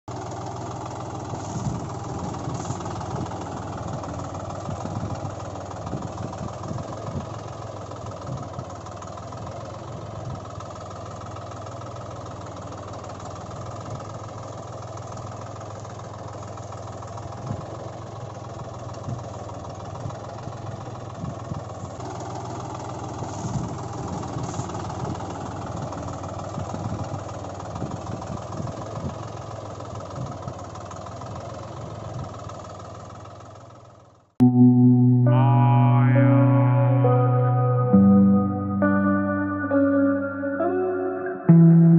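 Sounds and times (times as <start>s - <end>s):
tractor engine running: 0.1s - 41.9s.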